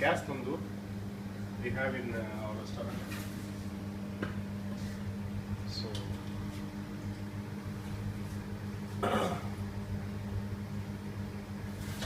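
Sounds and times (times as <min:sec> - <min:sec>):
kitchen equipment hum: 0:00.0 - 0:12.0.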